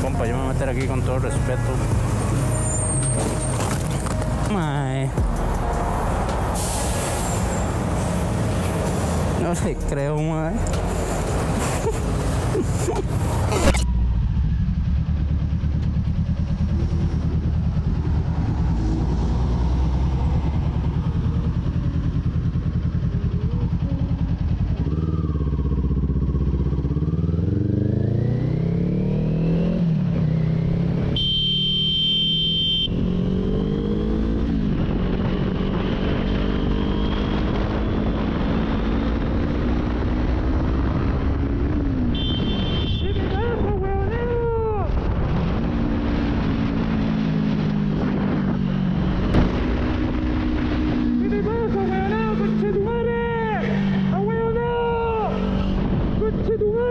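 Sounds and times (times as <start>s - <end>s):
motorcycle engine accelerating: 7.5s - 56.9s.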